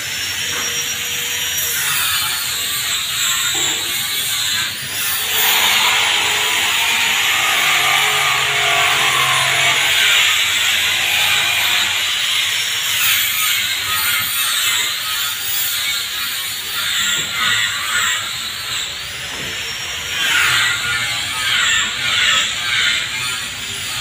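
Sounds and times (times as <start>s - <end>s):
power tool running: 0.0s - 24.0s.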